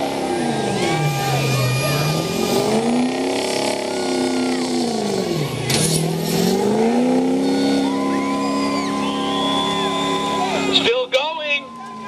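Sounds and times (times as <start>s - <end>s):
engine revving under load: 0.0s - 11.2s.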